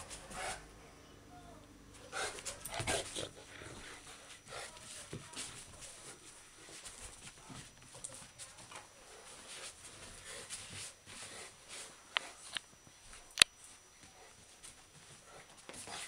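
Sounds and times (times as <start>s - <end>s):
dogs scuffling: 2.0s - 16.0s.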